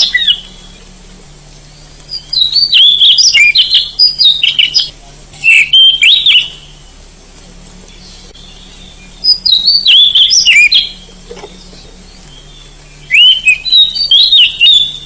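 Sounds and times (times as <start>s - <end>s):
bird whistled song: 0.0s - 0.8s, 1.5s - 7.0s, 7.9s - 15.0s.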